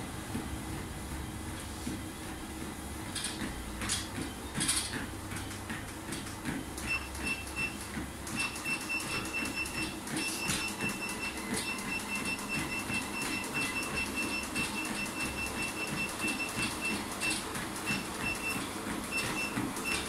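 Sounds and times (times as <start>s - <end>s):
treadmill motor humming: 0.0s - 20.0s
footfalls on treadmill belt: 0.2s - 20.0s.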